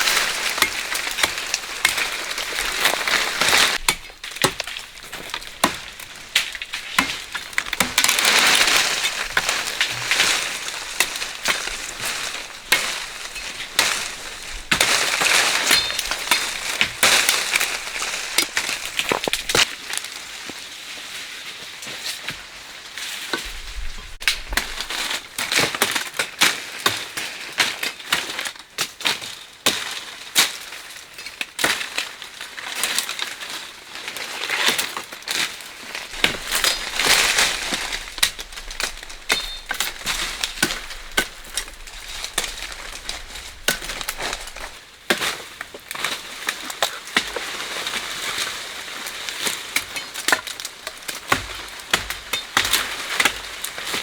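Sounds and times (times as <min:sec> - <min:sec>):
dry leaves and twigs crunching: 0:00.0 - 0:54.0.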